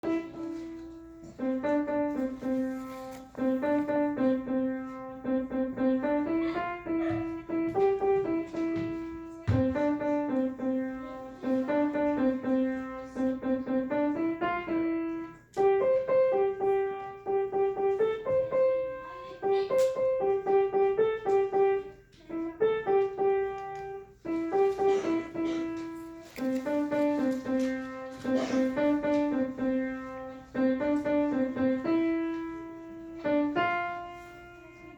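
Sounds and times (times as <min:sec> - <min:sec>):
piano melody: 0:00.0 - 0:34.9.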